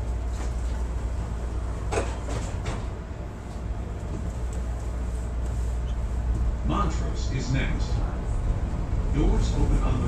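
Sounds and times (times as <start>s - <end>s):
railcar low hum: 0.0s - 10.0s.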